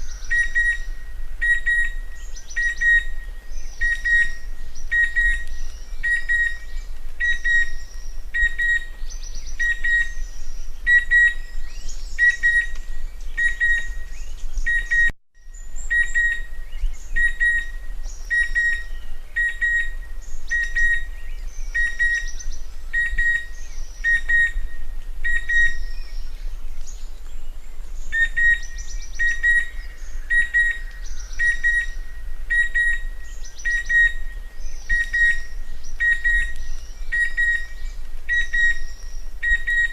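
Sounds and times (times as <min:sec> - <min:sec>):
cuckoo high whistled call: 0:00.0 - 0:26.2, 0:28.1 - 0:39.9.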